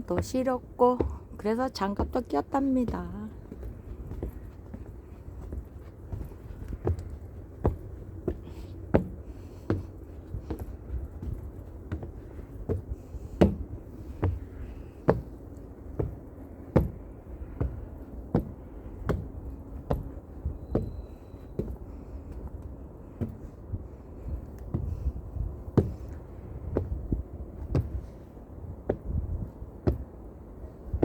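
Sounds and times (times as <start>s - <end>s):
footsteps on hard path: 0.0s - 31.0s.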